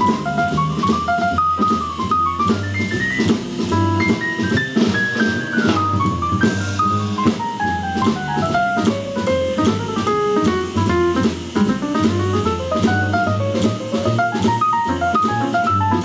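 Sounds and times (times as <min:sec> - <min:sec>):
drum kit cymbals: 0:00.0 - 0:16.0
jazz piano solo: 0:00.0 - 0:16.0
upright bass: 0:00.0 - 0:16.0.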